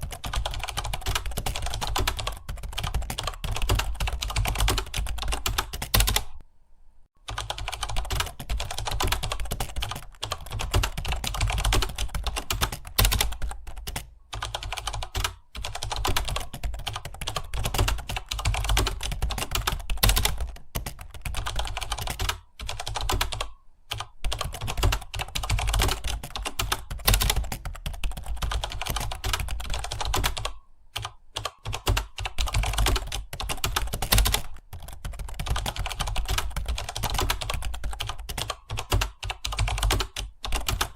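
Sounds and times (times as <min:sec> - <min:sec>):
typing on computer keyboard: 0:00.0 - 0:06.4, 0:07.2 - 0:40.9.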